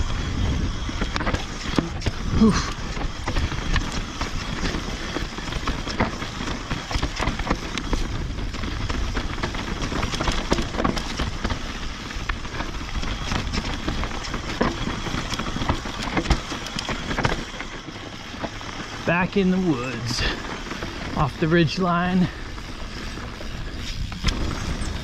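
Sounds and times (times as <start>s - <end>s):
bike clicks and rattles: 0.0s - 25.0s
bike tyres rumbling on gravel: 0.0s - 25.0s.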